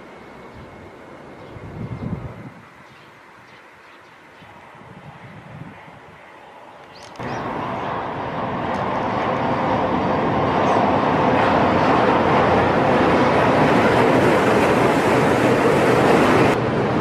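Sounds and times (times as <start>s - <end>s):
fast train rushing: 0.0s - 3.4s, 4.5s - 17.0s.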